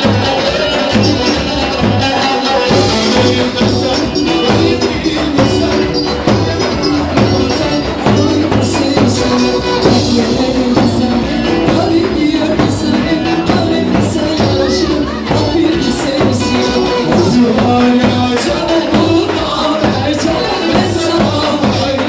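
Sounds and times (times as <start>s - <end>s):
loud dance music: 0.0s - 22.0s.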